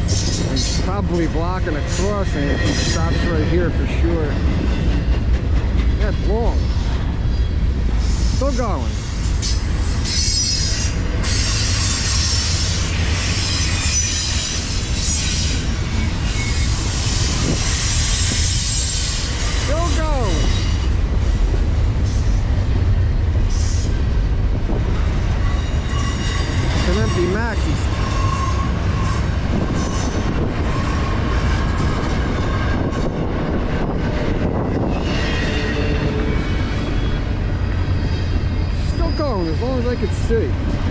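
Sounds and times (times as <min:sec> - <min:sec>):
steel wheels squealing on rail: 0:00.0 - 0:22.5, 0:23.4 - 0:40.5
rumble of train wheels: 0:00.0 - 0:40.9.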